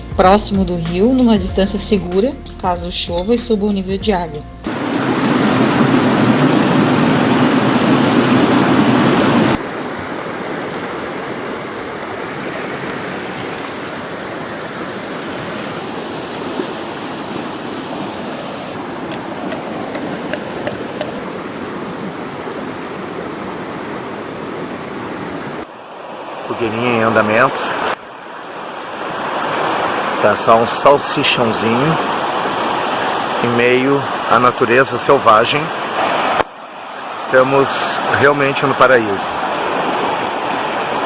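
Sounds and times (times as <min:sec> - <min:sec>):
river water rushing over rocks: 0:04.7 - 0:41.0.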